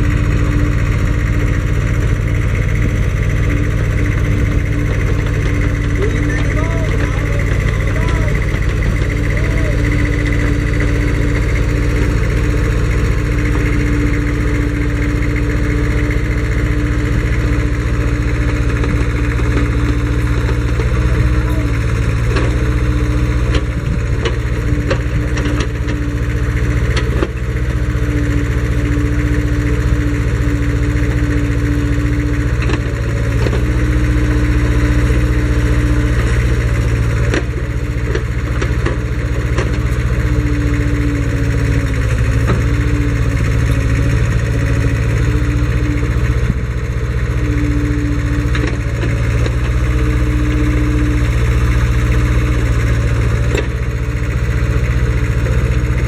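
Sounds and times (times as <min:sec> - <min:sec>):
backhoe engine running: 0:00.0 - 0:56.0.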